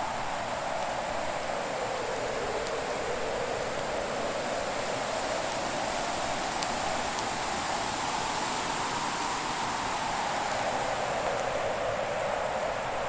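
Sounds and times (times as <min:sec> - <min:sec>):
wood fire hissing: 0:00.0 - 0:13.0.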